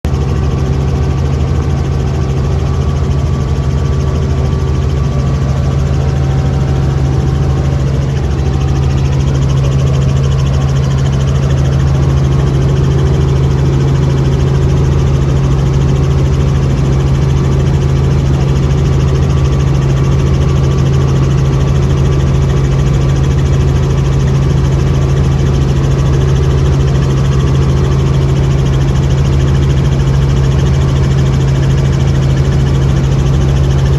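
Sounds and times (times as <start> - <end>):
helicopter engine and rotor: 0.0 - 33.9.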